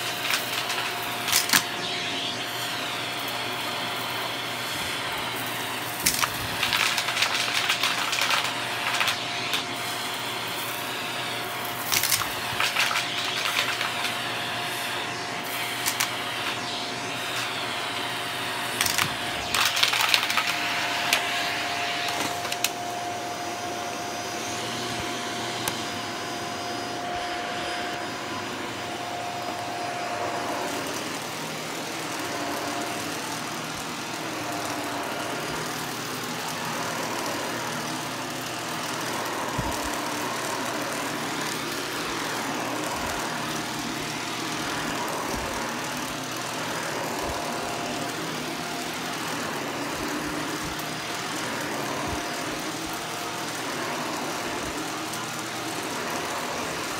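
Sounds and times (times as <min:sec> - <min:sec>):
vacuum cleaner on carpet: 0:00.0 - 0:56.9.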